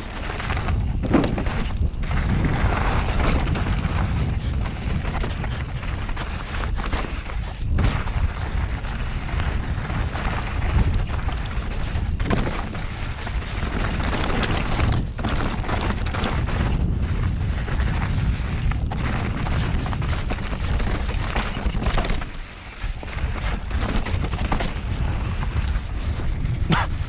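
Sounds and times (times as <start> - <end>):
bike tyres crunching over gravel: 0.0 - 26.8
bike knocks and rattles: 0.0 - 26.9
wind buffeting microphone: 0.0 - 27.0.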